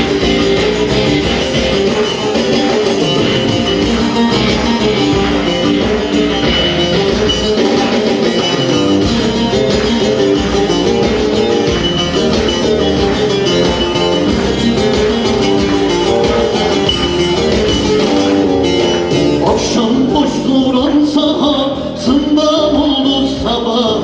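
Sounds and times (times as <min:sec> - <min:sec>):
plucked lute melody: 0:00.0 - 0:21.3
steady beat: 0:00.0 - 0:23.8.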